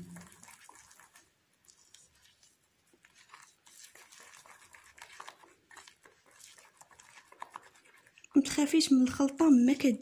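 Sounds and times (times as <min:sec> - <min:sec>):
plastic stirrer scraping glass bowl: 0:00.0 - 0:10.0.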